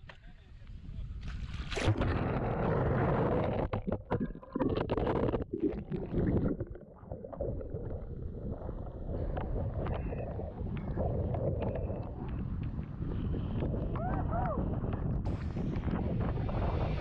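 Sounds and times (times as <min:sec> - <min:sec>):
wind rumble on microphone: 0:00.0 - 0:17.0
muffled underwater gurgling: 0:01.8 - 0:17.0.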